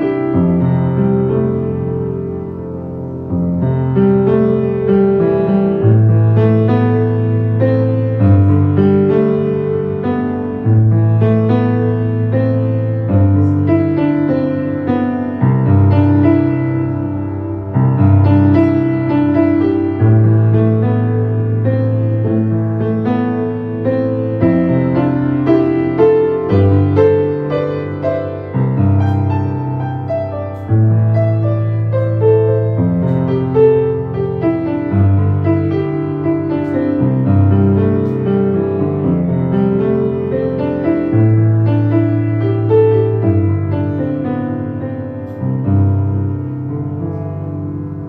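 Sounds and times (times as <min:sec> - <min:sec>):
slow piano music: 0:00.0 - 0:48.0.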